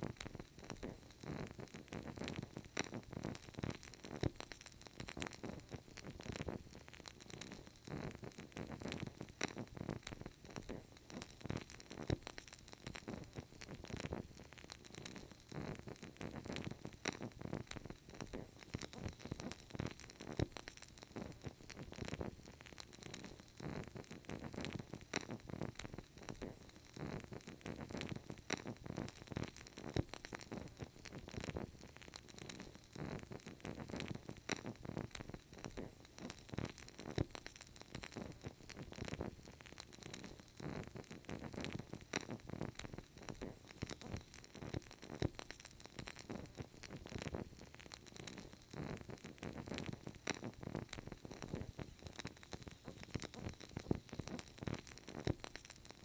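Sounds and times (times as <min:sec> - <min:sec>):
candle crackling and popping: 0:00.0 - 0:56.0
soft steady hiss: 0:00.0 - 0:56.0.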